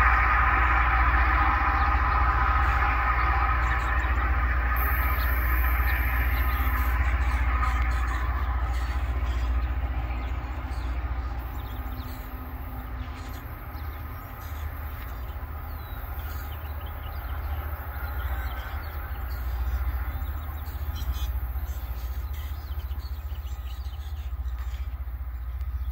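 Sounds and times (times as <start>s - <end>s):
faint whine: 0.0s - 25.9s
rail grinder rumbling: 0.0s - 25.9s.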